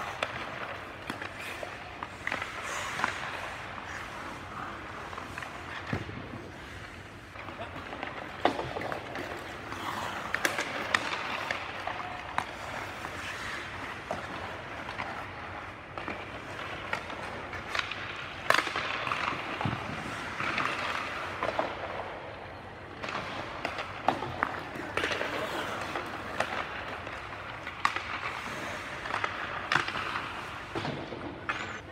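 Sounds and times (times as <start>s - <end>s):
sticks cracking against pucks: 0.0s - 31.8s
pucks hitting boards: 0.0s - 31.9s
skates scraping on ice: 0.0s - 31.9s.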